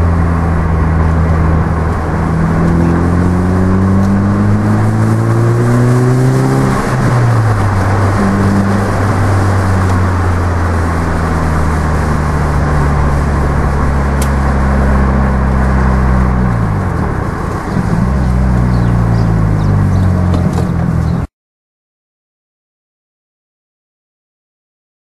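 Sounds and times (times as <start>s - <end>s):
car engine droning: 0.0s - 21.3s.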